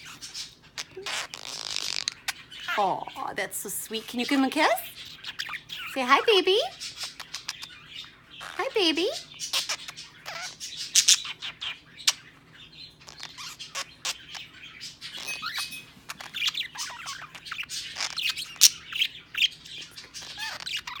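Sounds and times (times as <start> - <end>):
budgerigar chattering: 0.0 - 3.2, 4.6 - 21.0.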